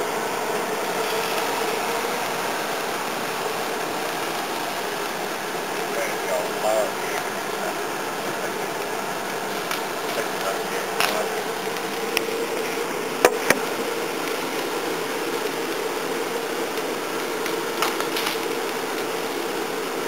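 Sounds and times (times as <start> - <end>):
blower fan rushing hum: 0.0 - 20.0
burning wood cracking: 0.0 - 20.0.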